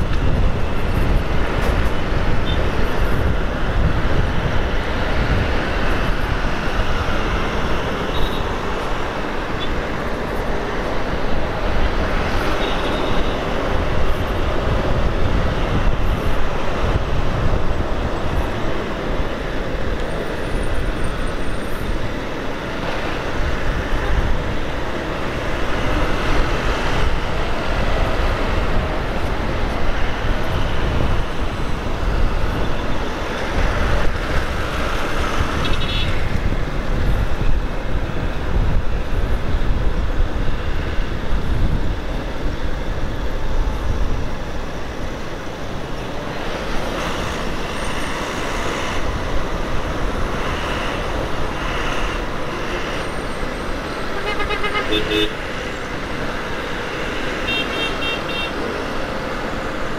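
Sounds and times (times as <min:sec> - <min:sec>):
surrounding traffic: 0:00.0 - 0:59.9
wind rushing on microphone: 0:00.0 - 0:59.9.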